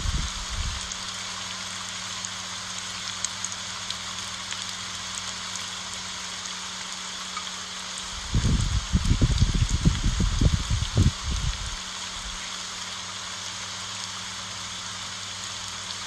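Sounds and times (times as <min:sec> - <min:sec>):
rain on leaves: 0:00.0 - 0:16.0.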